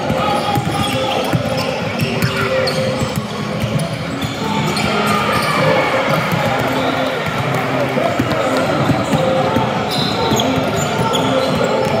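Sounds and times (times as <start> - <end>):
basketball bouncing on court: 0.0 - 12.0
voices calling out: 0.0 - 12.0.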